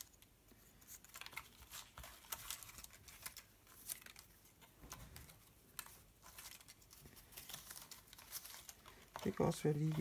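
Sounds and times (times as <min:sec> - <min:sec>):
paper strips rustling: 0:00.0 - 0:10.0.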